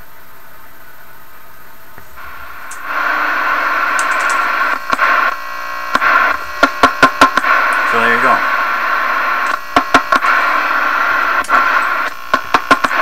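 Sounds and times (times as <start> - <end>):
radio static hiss: 0.0 - 13.0
static crackles and pops: 0.0 - 13.0.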